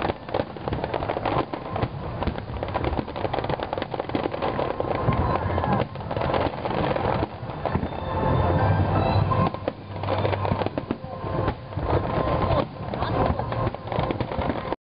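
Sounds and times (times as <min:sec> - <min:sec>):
deep fireworks booms: 0:00.0 - 0:14.8
fireworks bangs and crackles: 0:00.0 - 0:14.8.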